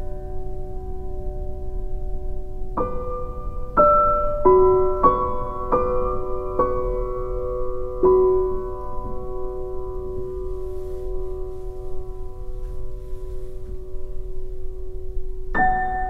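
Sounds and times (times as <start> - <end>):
slow piano chord ringing: 0.0 - 16.0.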